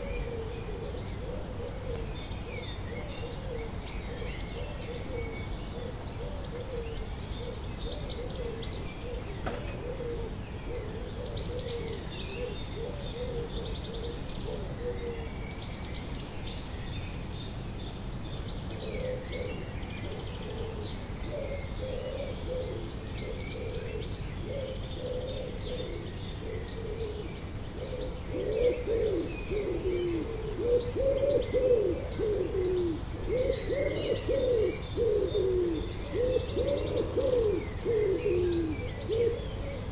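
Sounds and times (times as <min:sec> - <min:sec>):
birds singing and trilling: 0:00.0 - 0:39.9
low repeated bird calls: 0:00.0 - 0:39.9.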